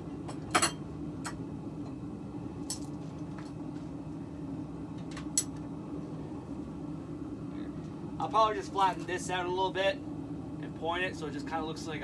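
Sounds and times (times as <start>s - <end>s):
forge humming: 0.0s - 12.0s.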